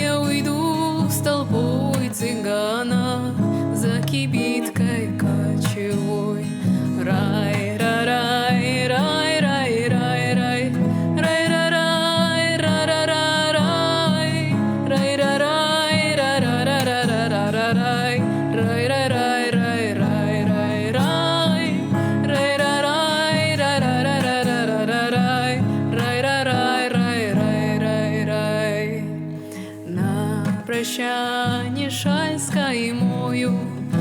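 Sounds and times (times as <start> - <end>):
acoustic guitar accompaniment: 0.0 - 34.0.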